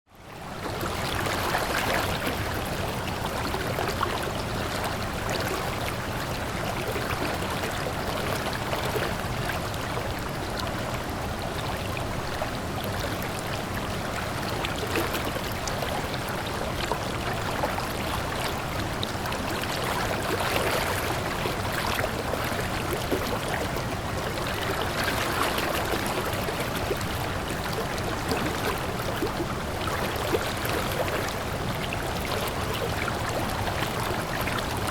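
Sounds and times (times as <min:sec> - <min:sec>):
flowing water: 0:00.1 - 0:34.9.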